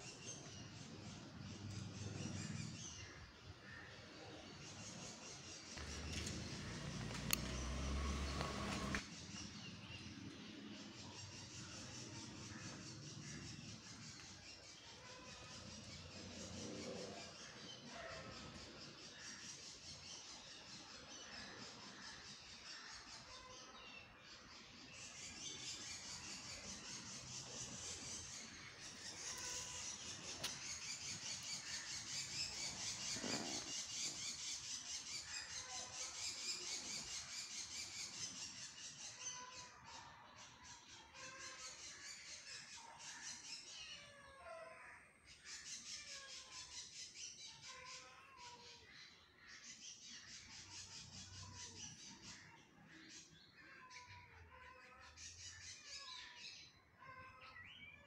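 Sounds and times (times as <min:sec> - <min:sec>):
birds calling and chirping: 0:00.0 - 0:58.0.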